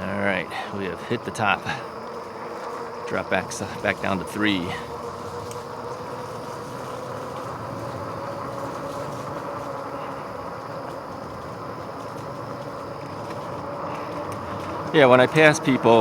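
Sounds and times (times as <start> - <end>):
bike tyres rolling on wet trail: 0.0 - 16.0
faint electric motor hum: 0.0 - 16.0.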